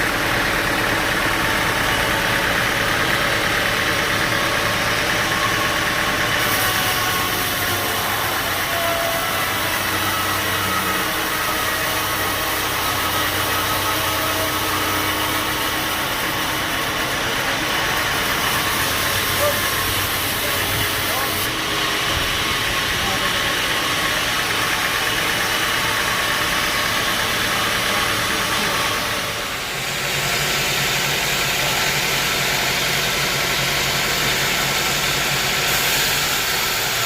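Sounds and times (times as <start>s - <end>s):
sawmill machinery droning: 0.0s - 37.0s.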